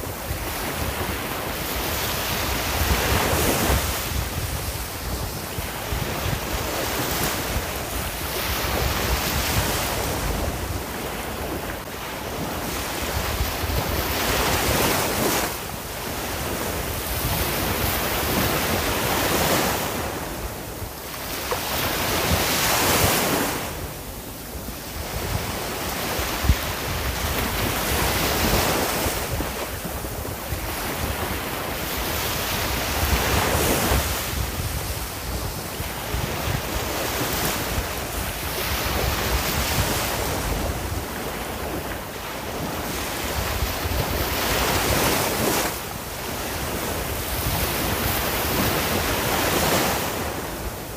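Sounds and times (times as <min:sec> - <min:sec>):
ocean waves breaking on shore: 0:00.0 - 0:50.9
wind rumble on microphone: 0:00.0 - 0:50.9.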